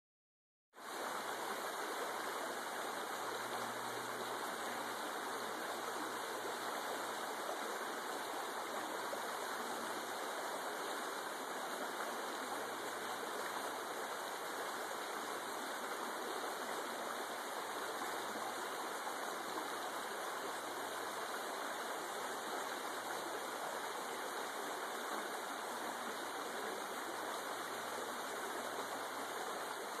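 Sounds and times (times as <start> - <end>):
creek running over rocks: 0.8 - 30.0.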